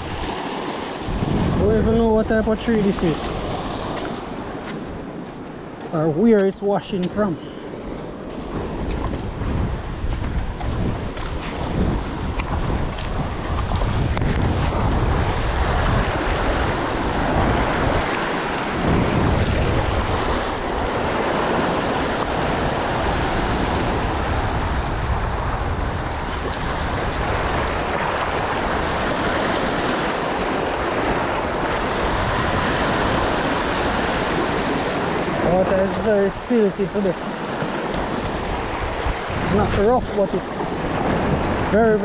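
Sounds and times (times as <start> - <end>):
surf washing over rocks: 0.0 - 42.0
wind rumbling on microphone: 0.0 - 42.0.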